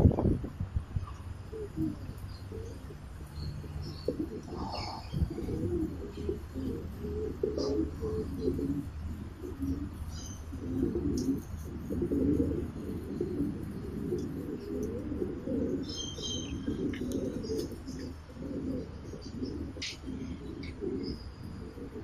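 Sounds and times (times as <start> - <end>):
pigeons cooing: 1.0 - 22.0
small birds chirping: 1.0 - 22.0.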